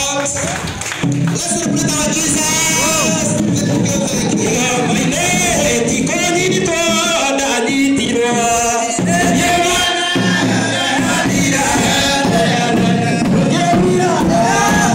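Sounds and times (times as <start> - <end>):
congregation singing a hymn: 1.4 - 14.9.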